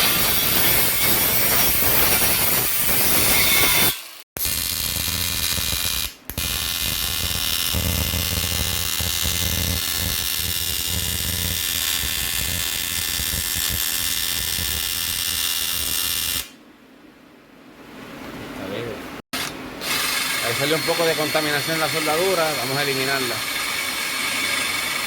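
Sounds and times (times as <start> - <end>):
welding arc buzzing: 0.0 - 16.6, 19.4 - 25.0.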